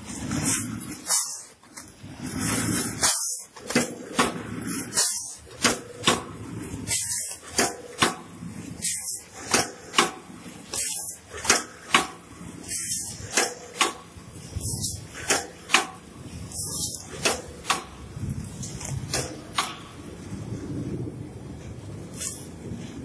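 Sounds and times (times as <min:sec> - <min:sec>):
packing machine running: 0:00.0 - 0:20.5.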